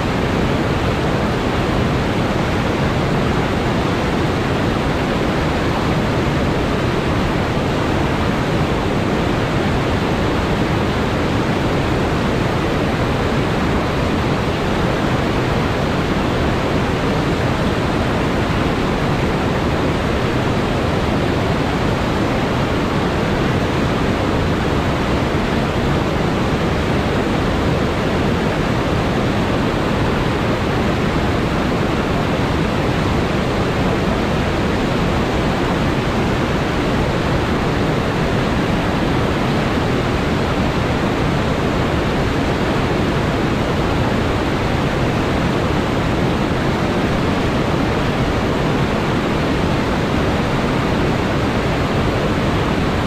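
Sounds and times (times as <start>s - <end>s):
whitewater rushing over rocks: 0.0s - 53.0s.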